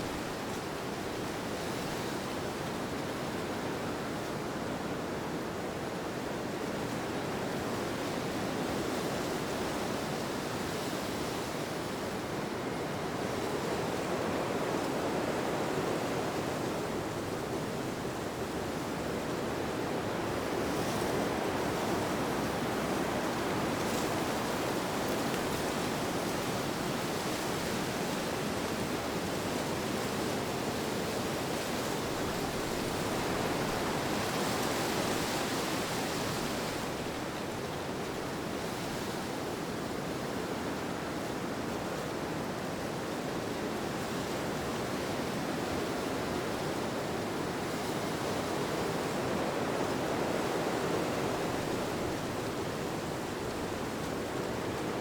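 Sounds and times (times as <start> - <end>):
rushing wind: 3.9 - 55.0.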